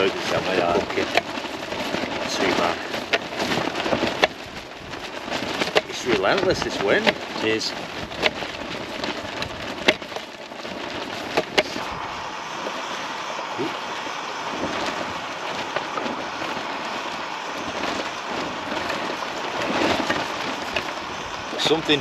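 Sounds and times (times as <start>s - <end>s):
gusting wind: 0.0s - 22.0s
rain beating on a tent: 0.0s - 22.0s.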